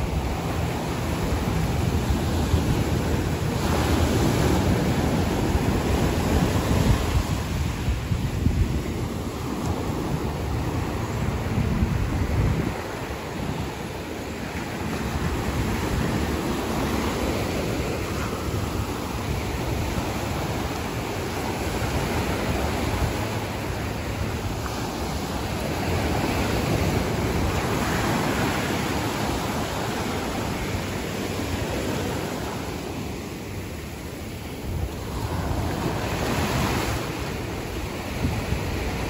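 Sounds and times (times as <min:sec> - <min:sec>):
surf on sandy beach: 0:00.0 - 0:39.0.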